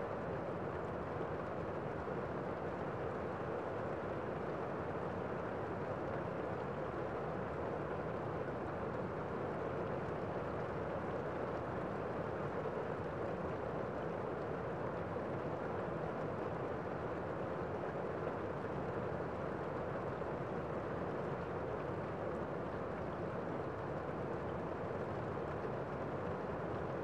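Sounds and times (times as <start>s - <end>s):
rain on a window: 0.1s - 27.0s.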